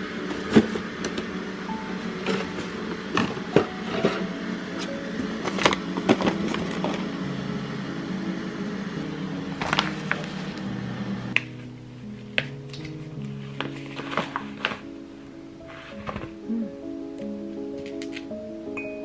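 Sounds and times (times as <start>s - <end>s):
background music with held notes: 0.0s - 19.0s.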